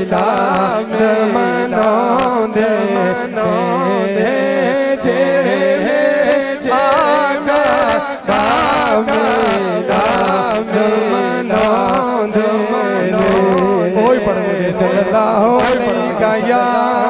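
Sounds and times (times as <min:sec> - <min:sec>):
men singing devotional song: 0:00.0 - 0:17.0.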